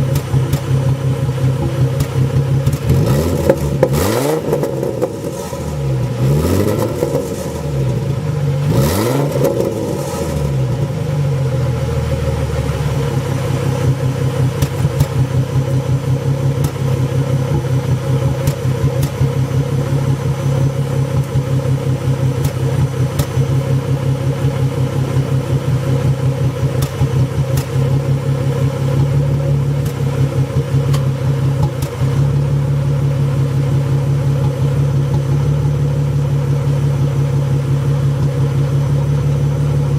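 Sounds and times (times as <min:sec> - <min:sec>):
car engine revving and idling: 0:00.0 - 0:39.9
engine popping: 0:00.0 - 0:39.9.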